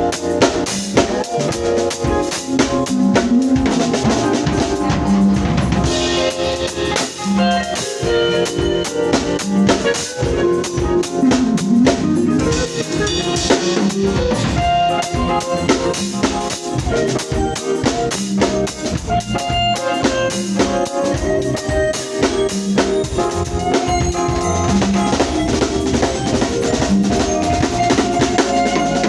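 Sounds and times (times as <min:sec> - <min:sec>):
band playing: 0:00.0 - 0:29.0
drum kit beat: 0:00.0 - 0:29.0.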